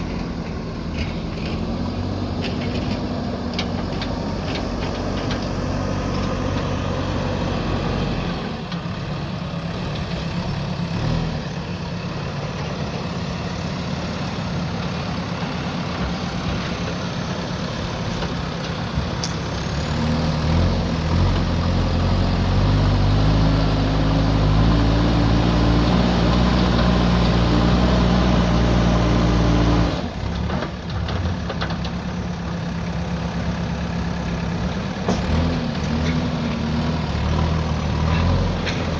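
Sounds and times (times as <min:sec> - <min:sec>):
diesel engine running and revving: 0:00.0 - 0:38.9.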